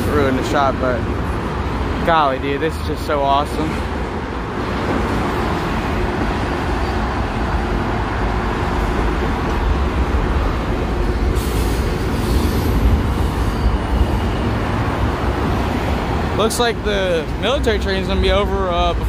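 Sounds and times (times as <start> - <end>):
train cars rumbling and clattering: 0.0 - 19.0.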